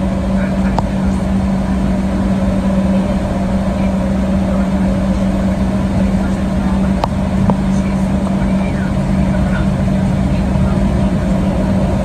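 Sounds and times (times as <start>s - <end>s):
jet engines idling low hum: 0.0s - 12.0s.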